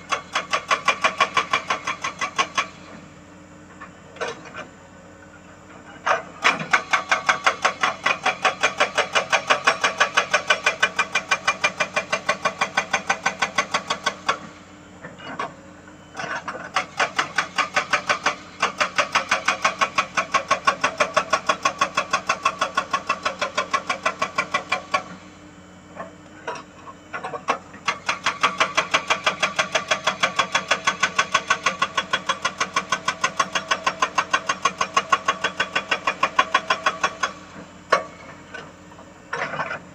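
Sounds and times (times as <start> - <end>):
hydraulic rock breaker hammering: 0.0 - 3.1, 6.1 - 14.5, 16.2 - 25.2, 26.0 - 38.7
excavator engine running: 0.0 - 5.1, 5.7 - 39.9.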